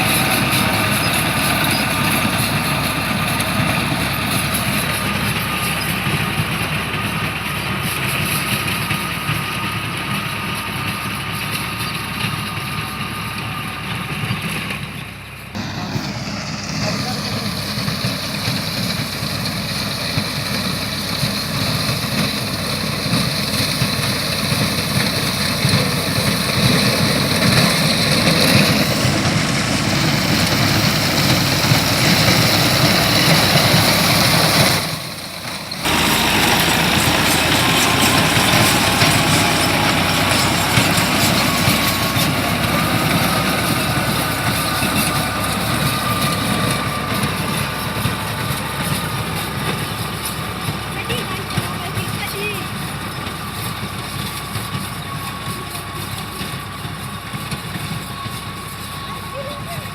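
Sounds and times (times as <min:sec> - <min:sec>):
harvesting machinery rumbling: 0:00.0 - 0:59.9.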